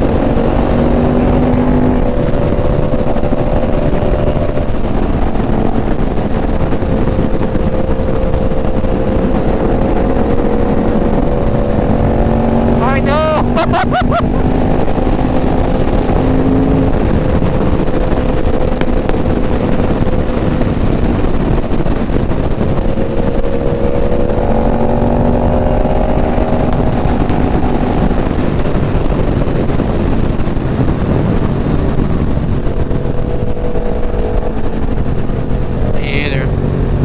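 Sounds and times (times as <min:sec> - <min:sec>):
motorcycle engine running: 0:00.0 - 0:37.0
wind rush on microphone: 0:00.0 - 0:37.0.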